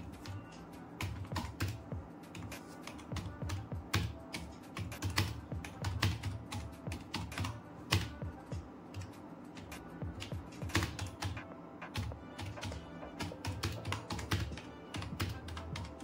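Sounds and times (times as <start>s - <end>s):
keyboard typing: 0.0s - 16.0s.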